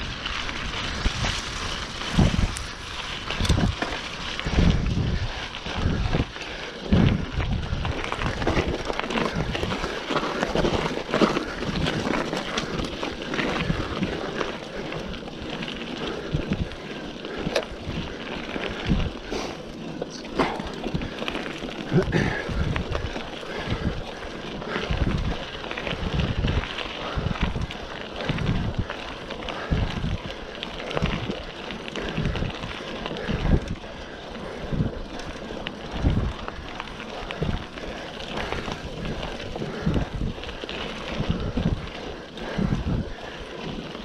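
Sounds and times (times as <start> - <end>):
bicycle tyre noise on trail: 0.0 - 44.0
wind buffeting microphone: 0.0 - 44.0
bike clicks and knocks: 0.2 - 44.0.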